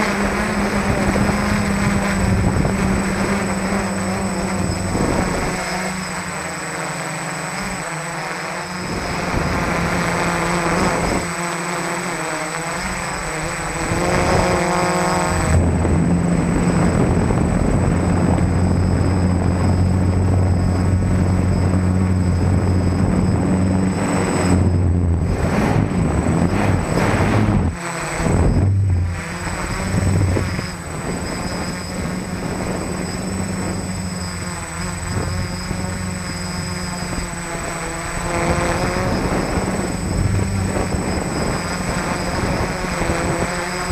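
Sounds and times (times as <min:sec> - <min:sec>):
drone motors buzzing: 0:00.0 - 0:43.9.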